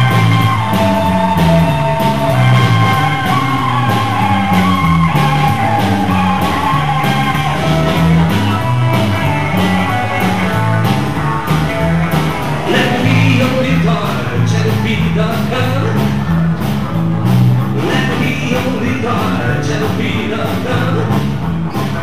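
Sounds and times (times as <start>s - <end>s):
drums steady beat: 0.0s - 22.0s
electric bass line: 0.0s - 22.0s
electric guitar: 0.0s - 22.0s.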